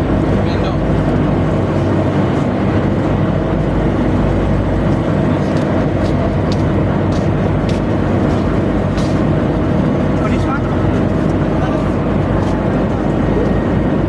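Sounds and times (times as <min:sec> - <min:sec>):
tugboat machinery low drone: 0:00.0 - 0:14.0.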